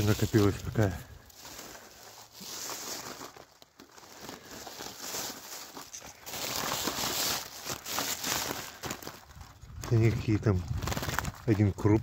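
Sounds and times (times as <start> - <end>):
footsteps through dry grass: 0.0 - 12.0
plastic bag crinkling: 0.0 - 12.0.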